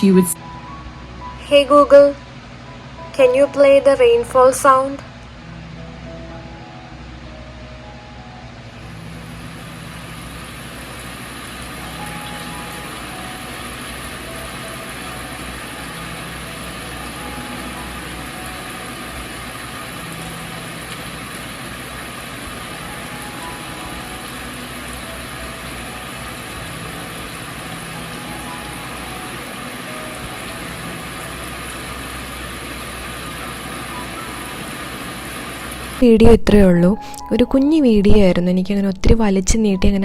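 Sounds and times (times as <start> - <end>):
recorded rain hiss: 0.0 - 37.9.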